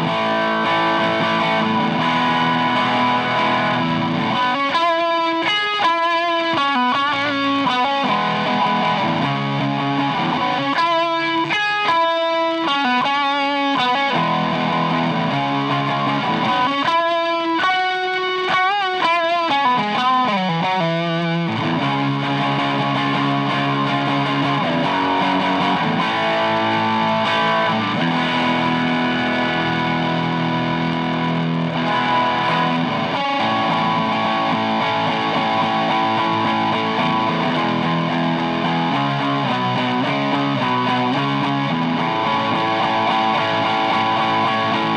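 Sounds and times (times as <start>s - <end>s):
overdriven electric guitar: 0.0s - 44.9s.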